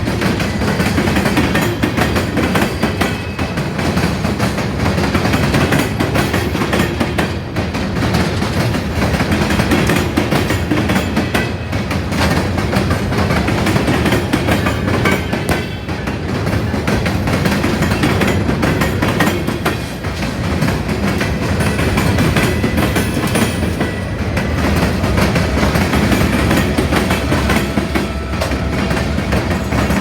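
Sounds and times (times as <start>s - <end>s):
train cars rumbling past: 0.0s - 30.0s
wheels clicking over rail joints: 0.0s - 30.0s.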